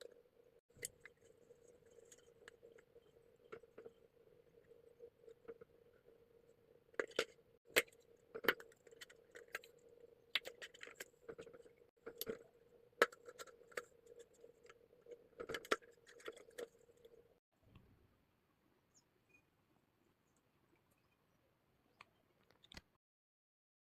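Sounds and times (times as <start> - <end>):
faint steady hum: 0.0 - 22.8.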